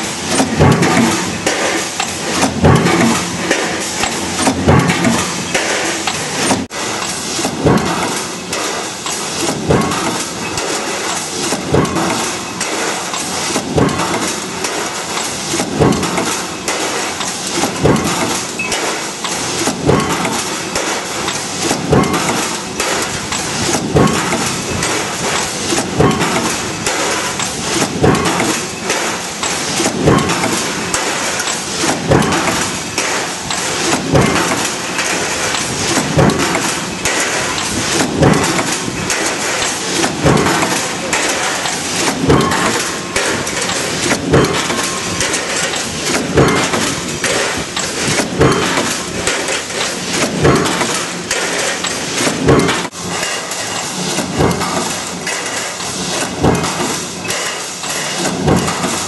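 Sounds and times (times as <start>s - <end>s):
power press stamping metal: 0.0s - 59.0s
shop noise: 0.0s - 59.0s.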